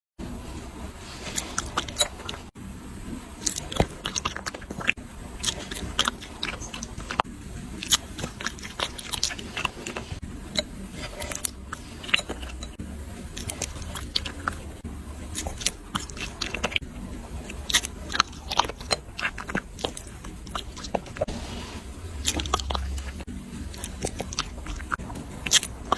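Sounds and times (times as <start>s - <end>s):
dogs chewing and smacking: 1.1s - 2.5s, 3.4s - 25.9s.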